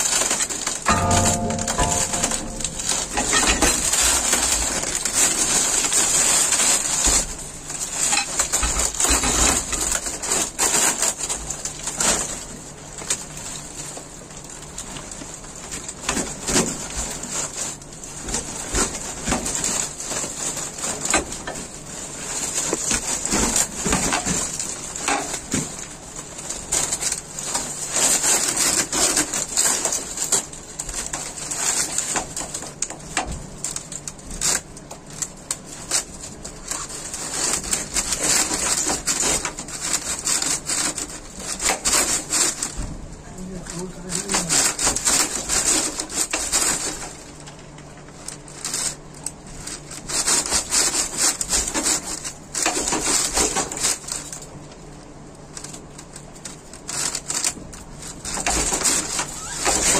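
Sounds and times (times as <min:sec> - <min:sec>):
plastic parts knocking and scraping: 0:00.0 - 0:59.9.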